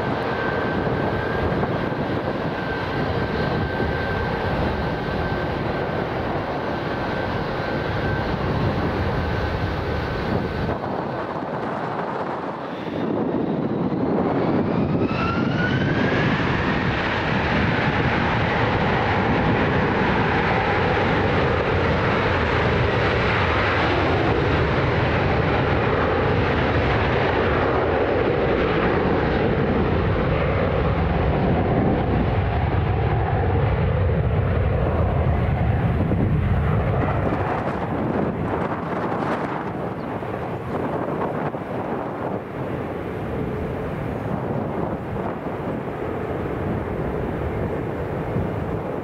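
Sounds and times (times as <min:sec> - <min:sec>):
jet engines at takeoff: 0:00.0 - 0:49.0.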